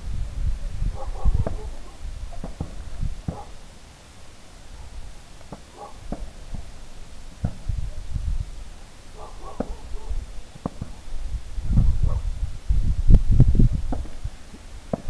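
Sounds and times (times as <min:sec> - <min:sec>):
fireworks bursting in sharp bangs: 0:00.9 - 0:12.2, 0:13.7 - 0:15.0.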